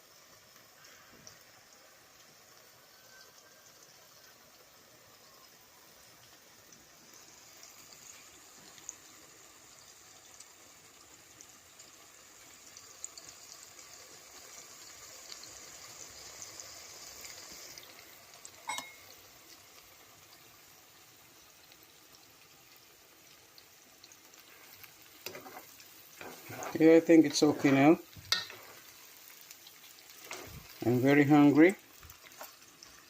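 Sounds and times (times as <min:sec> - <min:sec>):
omelette sizzling in frying pan: 0:00.0 - 0:33.0.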